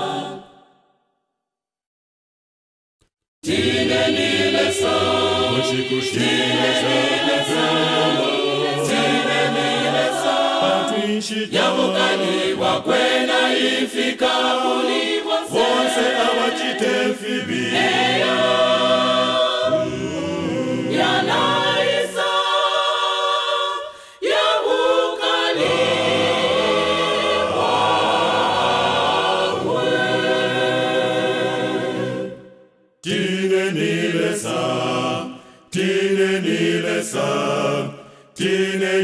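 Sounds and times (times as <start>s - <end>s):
choir singing a cappella: 0.0s - 0.8s, 3.4s - 39.0s.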